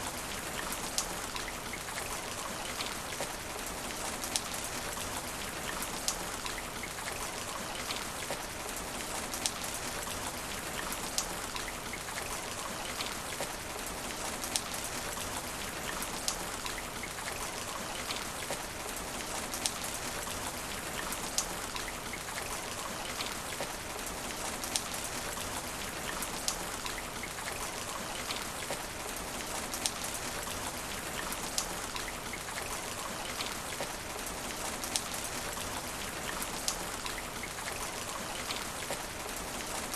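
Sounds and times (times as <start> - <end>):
rain on asphalt: 0.0 - 39.9
raindrops ticking: 0.5 - 39.9.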